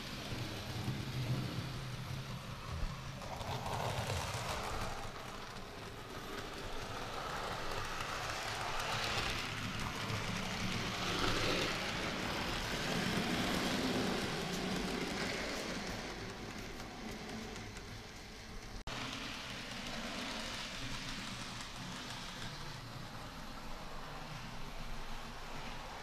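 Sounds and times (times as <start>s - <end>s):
small wheels rattling on rails: 0.0s - 26.0s.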